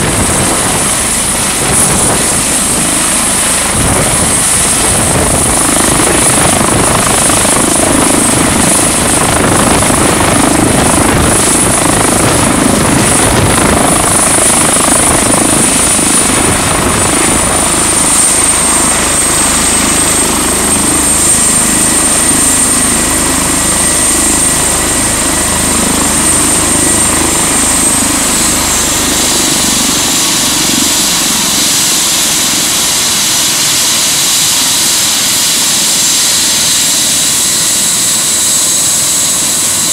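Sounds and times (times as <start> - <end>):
helicopter rotor beat: 0.0 - 39.9
helicopter turbines whining: 0.0 - 39.9.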